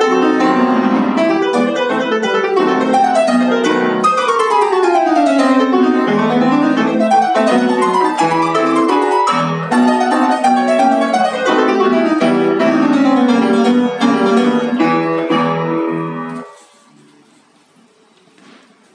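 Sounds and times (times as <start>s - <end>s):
fast piano passage: 0.0s - 18.0s.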